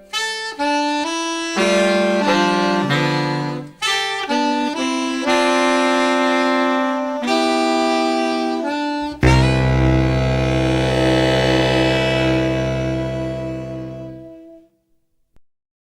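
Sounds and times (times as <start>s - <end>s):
saxophone ensemble playing chords: 0.0s - 14.6s.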